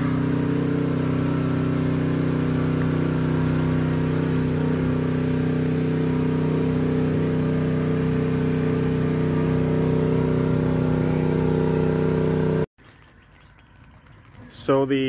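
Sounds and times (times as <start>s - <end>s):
pressure washer engine running: 0.0s - 12.7s.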